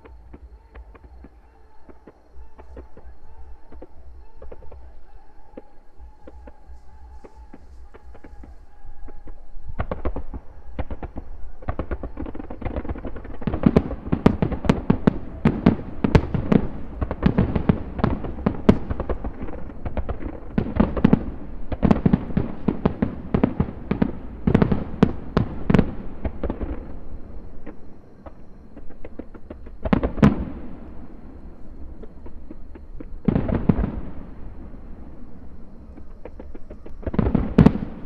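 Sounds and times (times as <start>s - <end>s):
fireworks bursting and banging: 0.0s - 38.0s.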